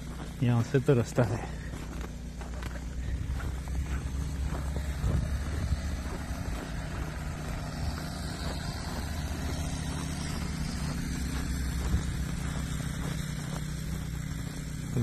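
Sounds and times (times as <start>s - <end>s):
footsteps crunching through snow: 0.0s - 15.0s
steady low rumble: 0.0s - 15.0s.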